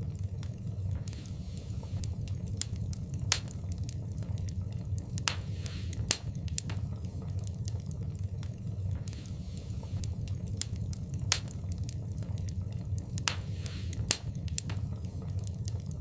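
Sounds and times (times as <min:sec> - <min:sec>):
fire hiss: 0:00.0 - 0:16.0
low rumble of flames: 0:00.0 - 0:16.0
wood fire crackling and popping: 0:00.0 - 0:16.0.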